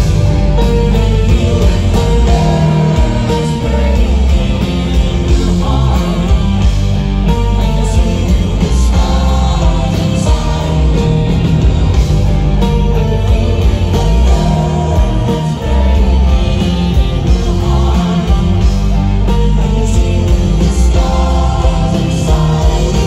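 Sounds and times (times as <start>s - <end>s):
person singing: 0.0s - 11.7s, 12.6s - 23.0s
live heavy rock band: 0.0s - 23.0s.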